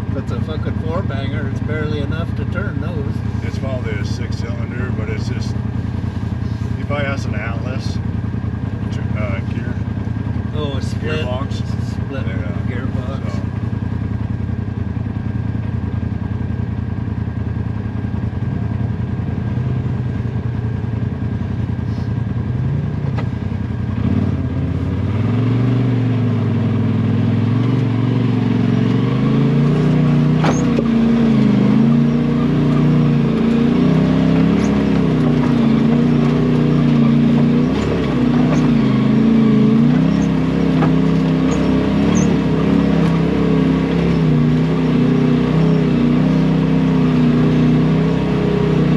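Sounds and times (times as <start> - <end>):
engine running and revving: 0.0 - 48.9.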